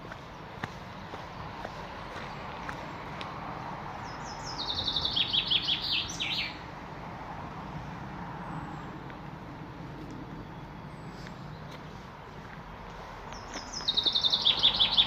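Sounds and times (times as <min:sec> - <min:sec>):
songbird singing: 0:00.0 - 0:06.7, 0:08.3 - 0:15.0.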